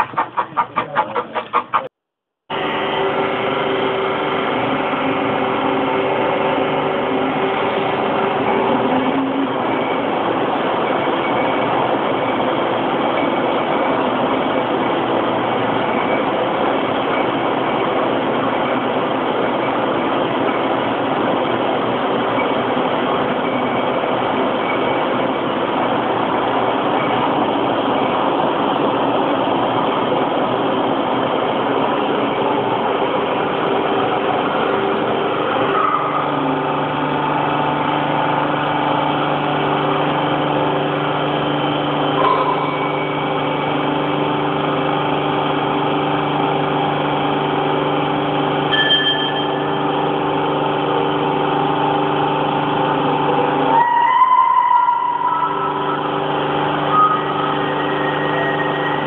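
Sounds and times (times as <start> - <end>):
winding engine mechanical drone: 0.0 - 1.9, 2.5 - 59.0.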